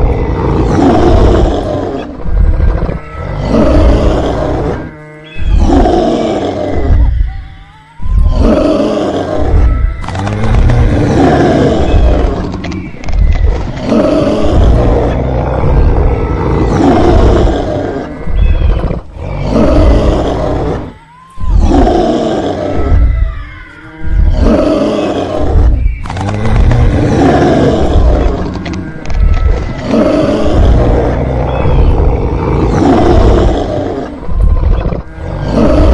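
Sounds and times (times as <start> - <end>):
dinosaur roars: 0.0 - 7.4, 8.0 - 35.9.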